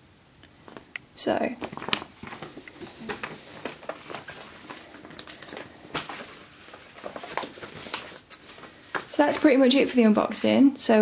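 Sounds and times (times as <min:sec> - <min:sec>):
paper and plastic bag rustling: 0:01.6 - 0:10.4.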